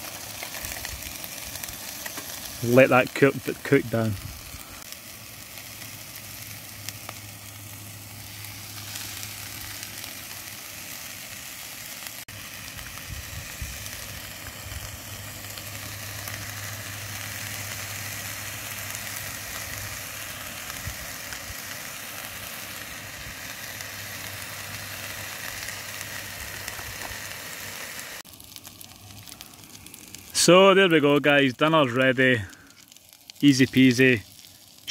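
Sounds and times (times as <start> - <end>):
food sizzling in frying pan: 0.0 - 30.5, 32.4 - 34.9.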